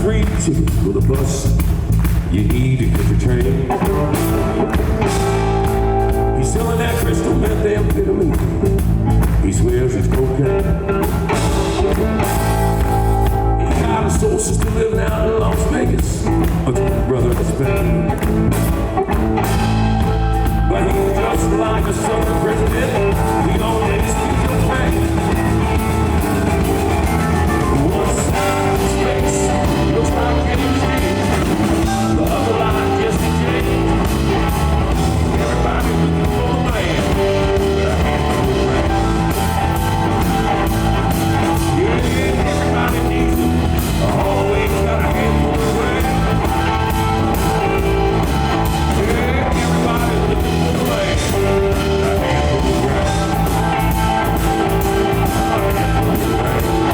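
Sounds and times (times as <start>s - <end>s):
blues-rock band playing: 0.0s - 56.9s.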